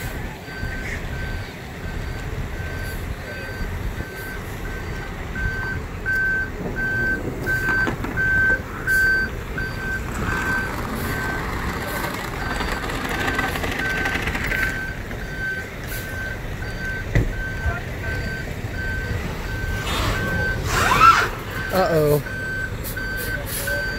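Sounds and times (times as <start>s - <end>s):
truck backup alarm beeping: 0.0s - 23.9s.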